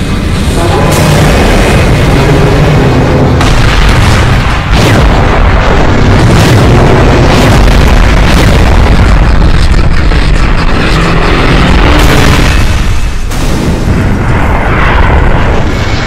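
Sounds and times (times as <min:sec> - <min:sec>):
continuous heavy rumble: 0:00.0 - 0:16.0
explosion blasts: 0:00.0 - 0:16.0.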